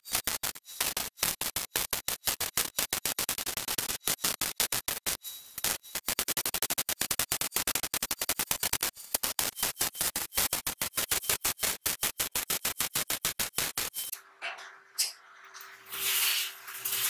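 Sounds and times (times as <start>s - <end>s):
arc welding crackle: 0.0s - 14.2s, 15.0s - 17.0s.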